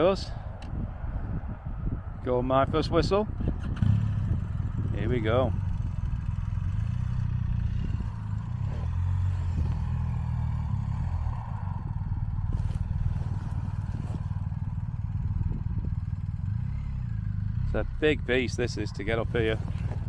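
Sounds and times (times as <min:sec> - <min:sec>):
motorcycle engine running at low revs: 0:01.1 - 0:20.0.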